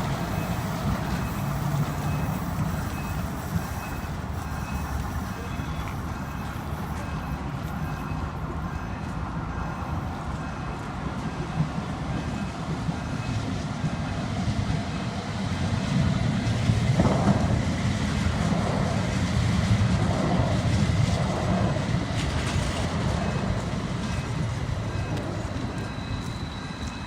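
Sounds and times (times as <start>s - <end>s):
tram rumbling past: 0.0s - 27.0s.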